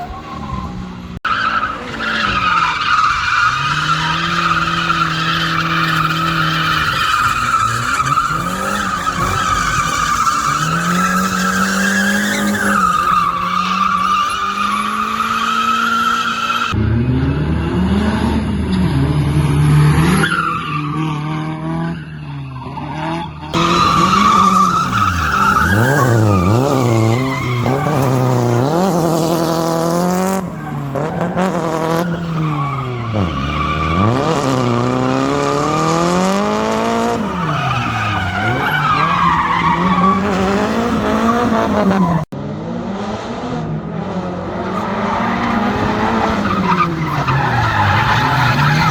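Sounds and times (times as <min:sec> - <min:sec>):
engine revving: 0:00.0 - 0:20.3, 0:22.8 - 0:48.9
tires squealing: 0:00.0 - 0:42.4, 0:43.5 - 0:48.9.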